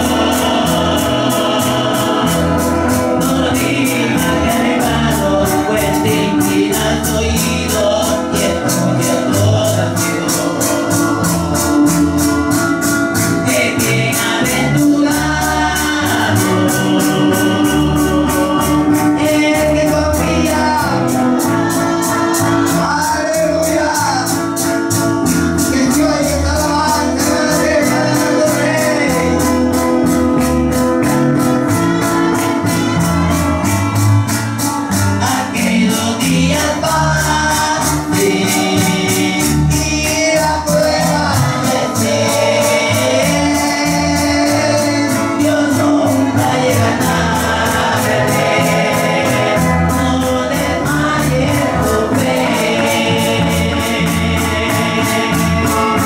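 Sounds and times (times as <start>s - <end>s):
accordion: 0.0s - 56.0s
bass guitar: 0.0s - 56.0s
high percussion beat ticking: 0.0s - 56.0s
men singing a hymn: 0.0s - 56.0s
small high-pitched guitar: 0.0s - 56.0s
strummed acoustic guitars: 0.0s - 56.0s.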